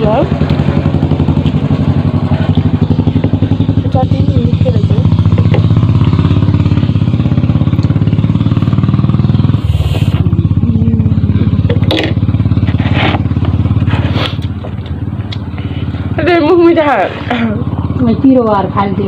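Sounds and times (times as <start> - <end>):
low pulsing machine drone: 0.0 - 19.0.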